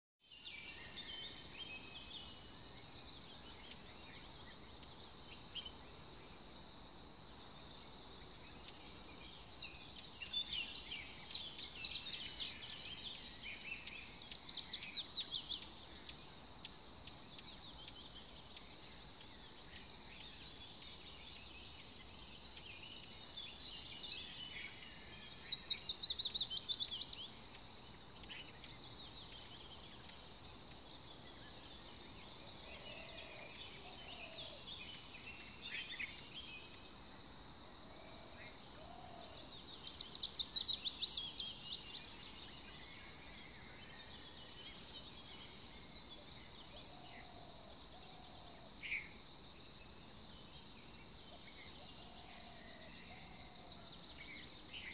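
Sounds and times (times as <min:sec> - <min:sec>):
birdsong chirps and trills: 0:00.2 - 0:54.9
faint background hiss: 0:00.2 - 0:54.9.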